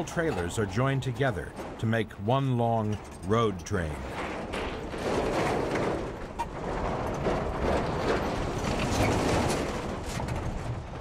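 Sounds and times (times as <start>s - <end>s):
trailers rolling and rattling: 0.0s - 11.0s.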